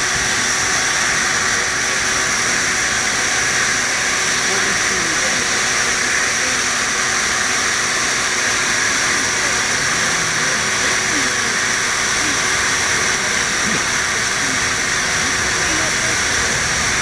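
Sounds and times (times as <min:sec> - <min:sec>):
vacuum motor running: 0:00.0 - 0:17.0.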